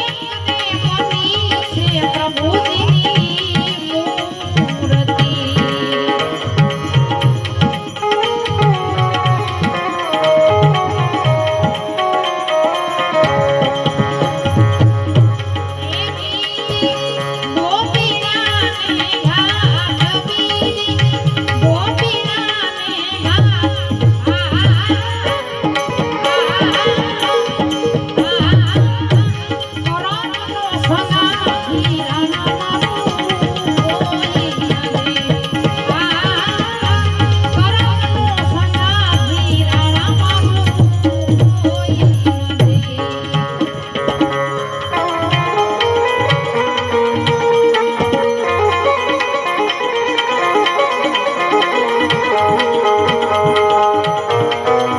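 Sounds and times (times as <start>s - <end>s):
tabla and hand percussion: 0.0s - 54.9s.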